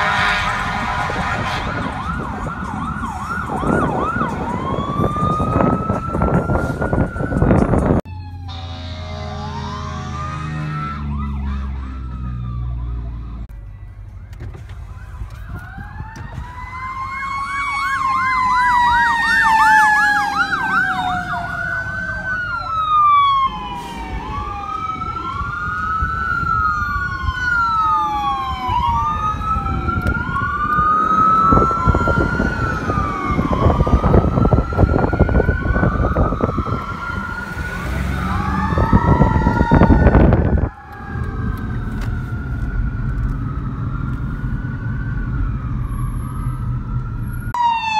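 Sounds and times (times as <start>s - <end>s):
emergency sirens wailing: 0.0s - 47.9s.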